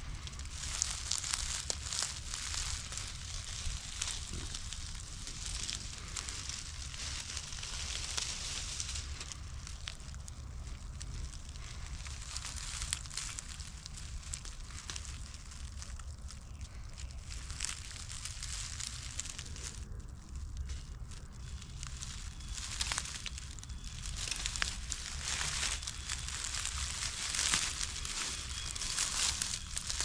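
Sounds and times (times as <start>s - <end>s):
rustling grass and leaves: 0.0s - 30.0s
small crackles: 0.0s - 30.0s.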